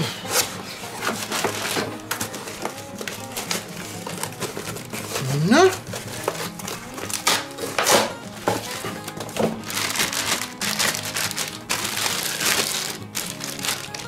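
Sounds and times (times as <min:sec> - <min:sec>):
background music: 0:00.0 - 0:14.0
cardboard box rustling: 0:00.0 - 0:14.0
plastic wrapping crinkling: 0:00.0 - 0:14.0.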